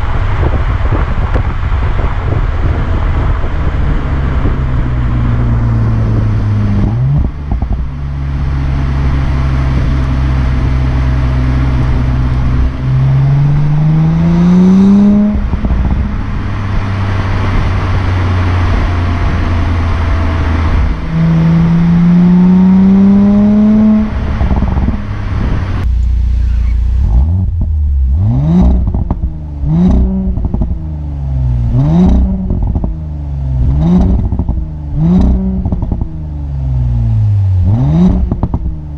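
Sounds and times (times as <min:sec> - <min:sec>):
car engine accelerating: 0:00.0 - 0:38.9
exhaust crackle: 0:00.0 - 0:38.9
engine rev blips: 0:04.4 - 0:38.9.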